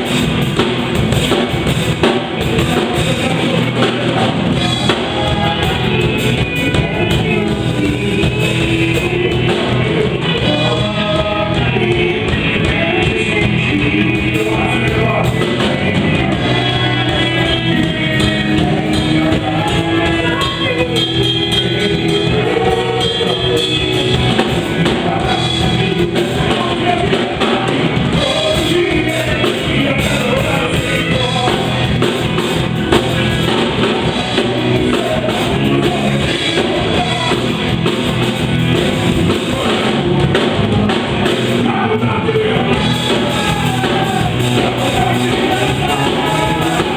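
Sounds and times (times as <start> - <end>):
band playing upbeat song: 0.0 - 46.9
person singing: 0.0 - 46.9.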